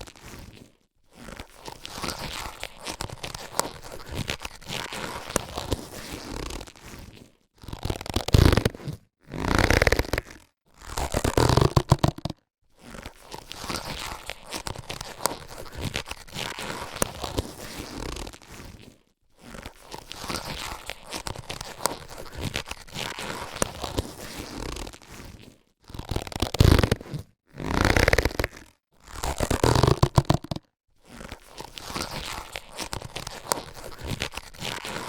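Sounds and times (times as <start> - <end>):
latex gloves rubbing and stretching: 0.0 - 35.0.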